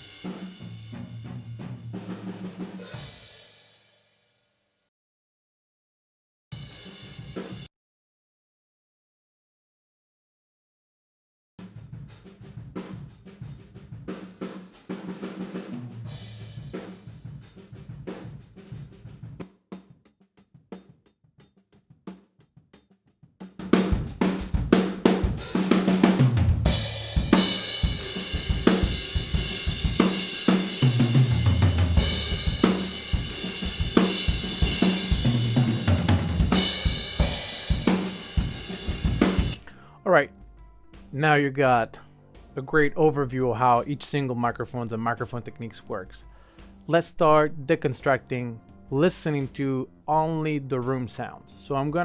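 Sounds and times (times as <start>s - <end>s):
acoustic drum kit groove: 0.0s - 4.2s, 6.6s - 7.7s, 11.6s - 42.6s, 43.5s - 47.0s, 47.8s - 52.0s.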